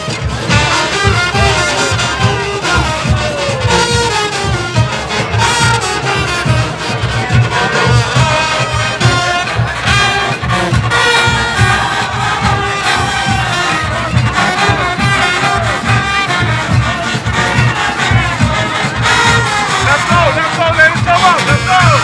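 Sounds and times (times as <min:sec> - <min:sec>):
brass horns playing melody: 0:00.0 - 0:22.0
pounding drumbeat: 0:00.0 - 0:22.0.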